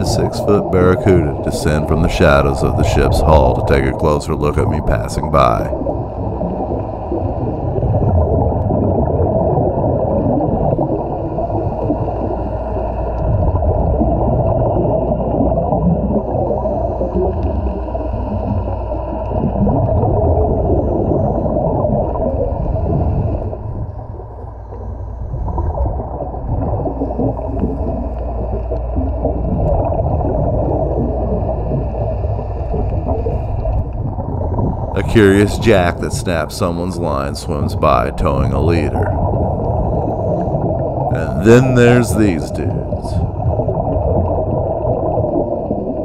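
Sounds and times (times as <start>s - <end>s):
muffled underwater water rumble: 0.0s - 46.0s.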